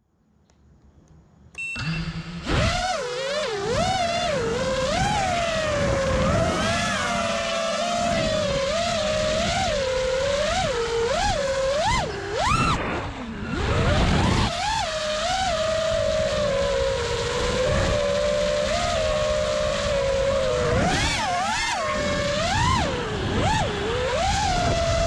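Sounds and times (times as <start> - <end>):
quadcopter motors whining: 1.7 - 25.0.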